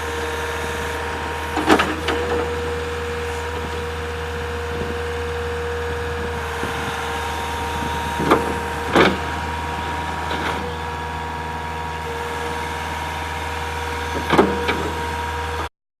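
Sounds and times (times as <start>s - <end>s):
diesel engine droning: 0.0s - 15.7s.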